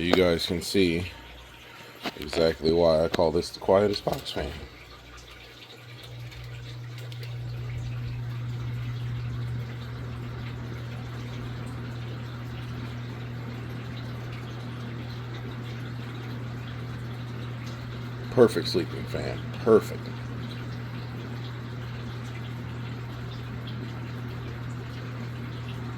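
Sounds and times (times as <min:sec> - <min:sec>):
box fan motor hum: 0:00.0 - 0:25.9
water filter trickling: 0:00.0 - 0:25.9.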